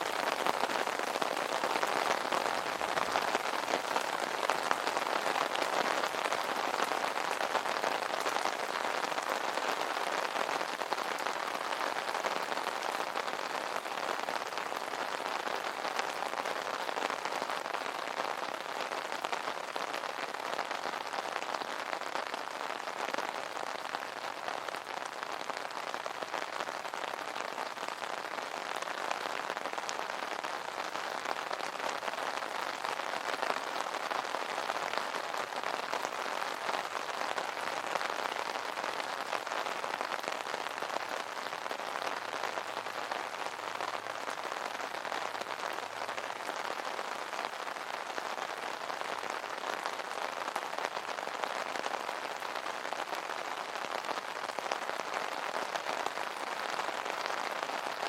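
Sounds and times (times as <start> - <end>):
rain pattering on umbrella: 0.0 - 58.0.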